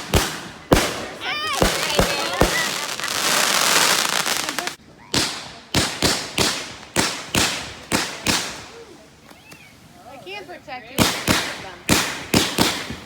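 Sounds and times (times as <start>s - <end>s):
fireworks bangs: 0.0s - 8.8s, 10.9s - 13.0s
fireworks hissing crackle: 0.0s - 13.0s.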